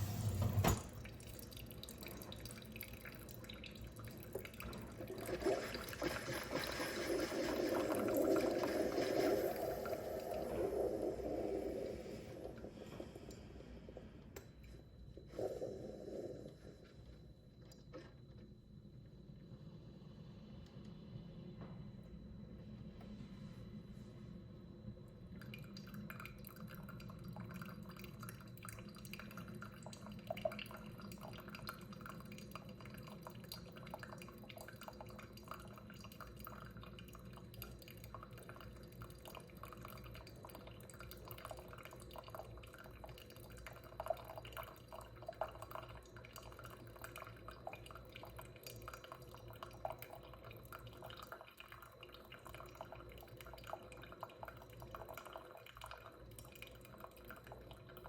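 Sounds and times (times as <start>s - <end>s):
coffee machine humming: 0.0s - 21.7s, 25.1s - 58.0s
coffee dripping into cup: 1.0s - 16.9s, 25.3s - 58.0s.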